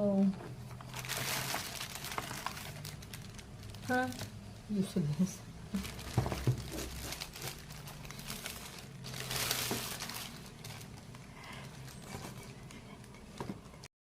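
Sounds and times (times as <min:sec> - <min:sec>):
packaging crinkling and rustling: 0:00.6 - 0:13.7.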